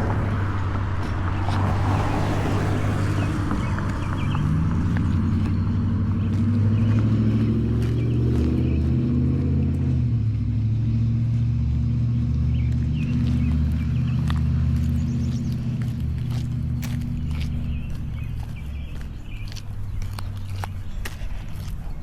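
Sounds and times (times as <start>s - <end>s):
footsteps on pavement: 0.0s - 22.0s
vehicle engine humming: 0.0s - 22.0s.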